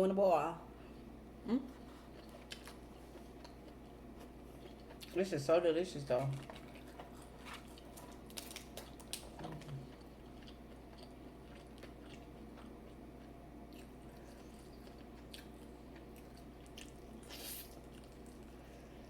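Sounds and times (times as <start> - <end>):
faint steady hum: 0.0 - 19.0
person chewing food: 1.0 - 5.2, 6.1 - 19.0.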